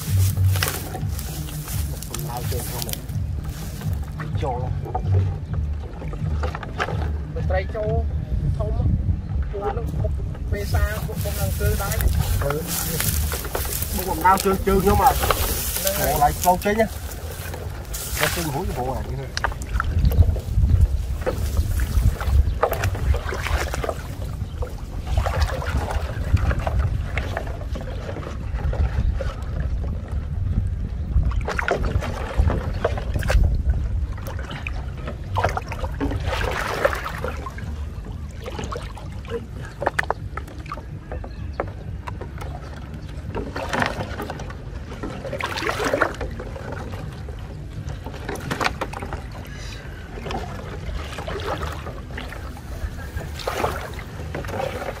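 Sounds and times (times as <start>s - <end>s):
water sloshing and splashing: 0.0s - 55.0s
wind on microphone: 0.0s - 55.0s.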